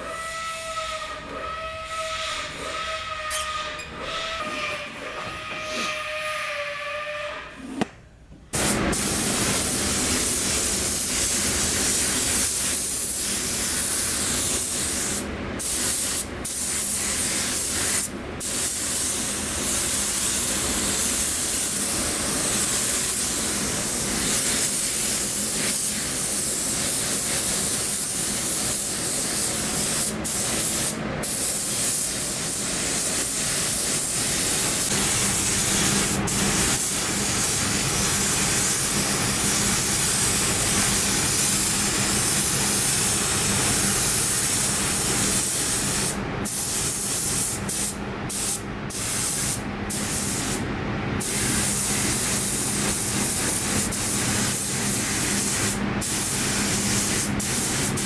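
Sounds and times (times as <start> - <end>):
compressed air hissing from air gun: 8.6 - 50.6, 51.2 - 58.0.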